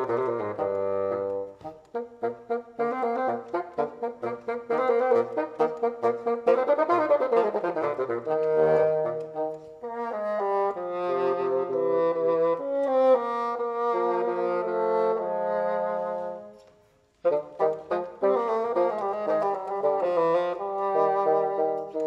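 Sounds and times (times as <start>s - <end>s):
two bassoons playing a duet: 0.0s - 22.0s.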